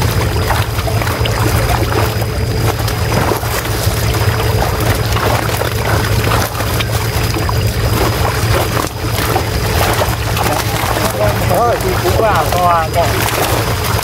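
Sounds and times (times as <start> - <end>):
fish thrashing and splashing: 0.0 - 14.0
steady low drone: 0.0 - 14.0.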